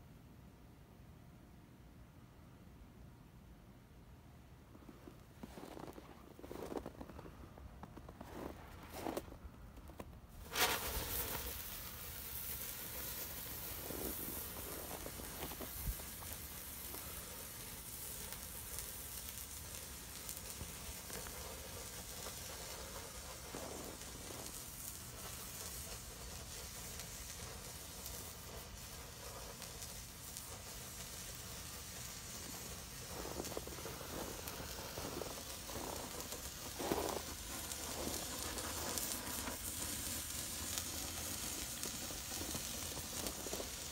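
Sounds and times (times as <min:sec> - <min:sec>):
flare burning with hiss: 0:04.7 - 0:43.9.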